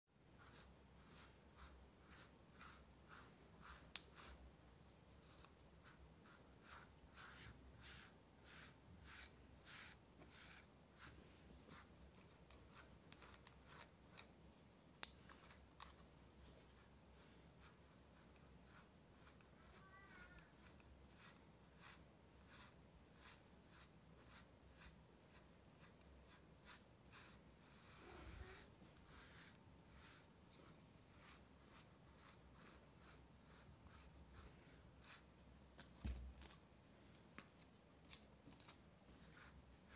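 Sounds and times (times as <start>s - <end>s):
brush raking through cat fur: 0.4s - 4.4s, 5.1s - 14.3s, 15.5s - 35.3s.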